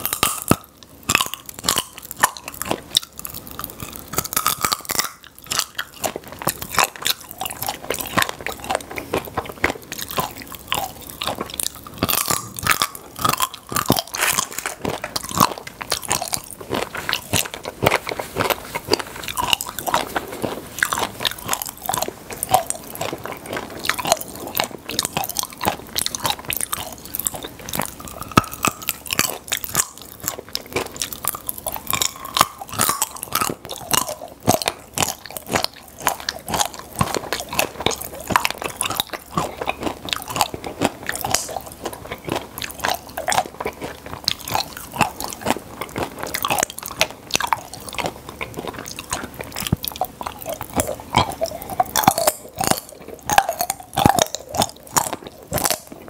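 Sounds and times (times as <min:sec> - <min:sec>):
chewing popping candy crackling: 0:00.0 - 0:56.0.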